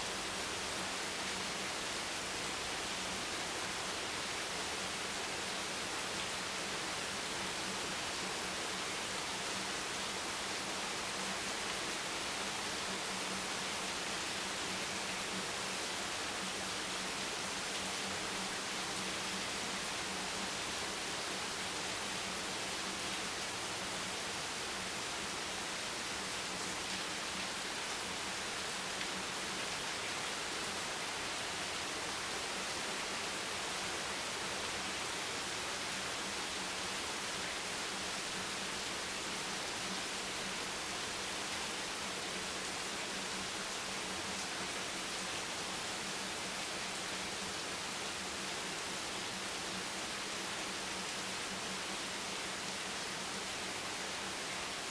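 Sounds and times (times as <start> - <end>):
rain hiss: 0.0 - 54.9.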